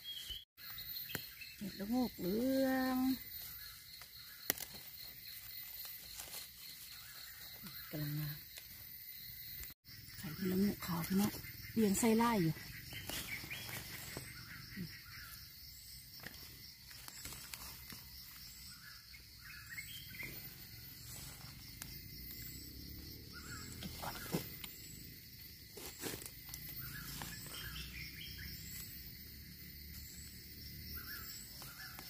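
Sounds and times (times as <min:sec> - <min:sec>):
bird chirping: 0:00.0 - 0:06.0, 0:06.6 - 0:25.4, 0:26.4 - 0:32.0
insect drone: 0:00.6 - 0:32.0.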